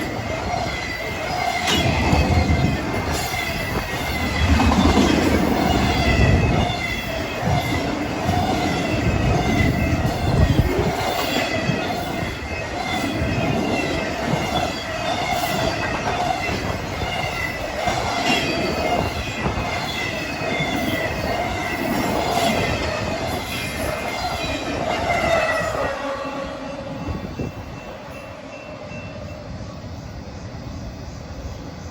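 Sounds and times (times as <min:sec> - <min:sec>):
train wheels clicking over rail joints: 0:00.0 - 0:25.7
wheel squeal on rail: 0:00.0 - 0:30.9.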